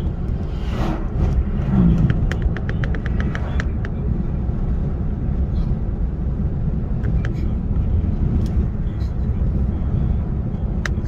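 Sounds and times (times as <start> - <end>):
vehicle cabin road rumble: 0.0 - 11.0.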